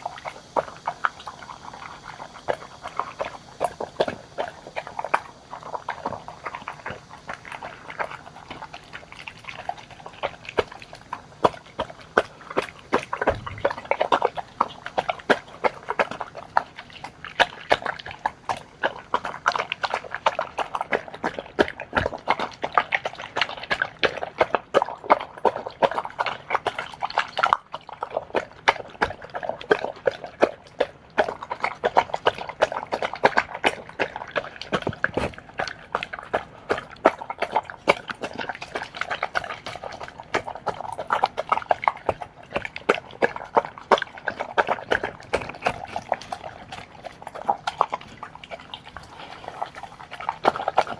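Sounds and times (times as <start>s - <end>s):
dog chewing wet food: 0.0s - 50.9s.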